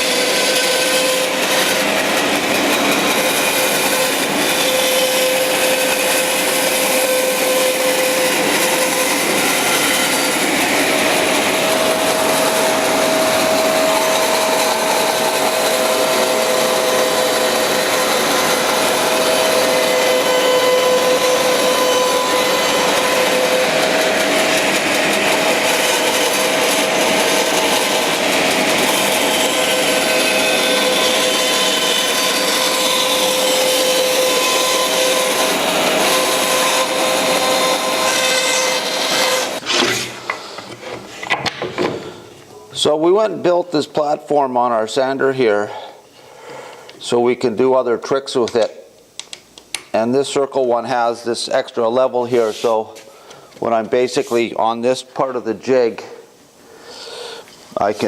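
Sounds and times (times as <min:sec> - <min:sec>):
bandsaw cutting wood: 0:00.0 - 0:41.2, 0:50.6 - 0:56.1.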